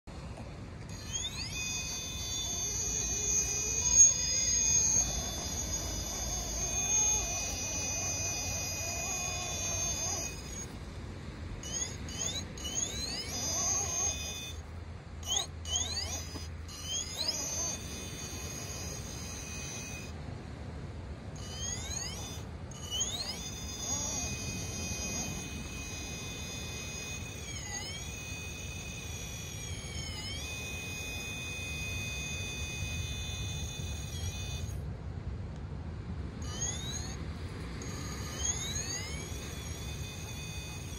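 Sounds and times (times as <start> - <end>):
electric motor whining: 0.3 - 20.2, 21.3 - 34.8, 36.4 - 40.9.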